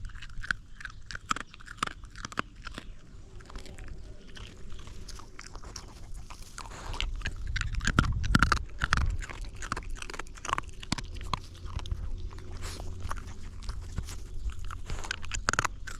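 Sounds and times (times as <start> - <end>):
dog chewing food crunching: 0.0 - 15.9.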